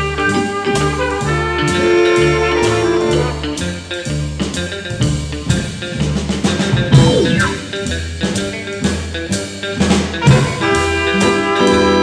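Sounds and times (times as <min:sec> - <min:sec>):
guitar music with bass and drums: 0:00.0 - 0:12.0.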